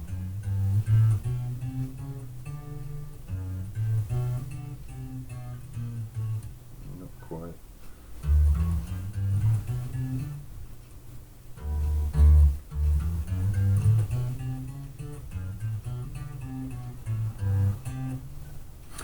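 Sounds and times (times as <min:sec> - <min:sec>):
plucked electric bass notes: 0:00.0 - 0:06.6, 0:08.2 - 0:10.5, 0:11.6 - 0:18.4.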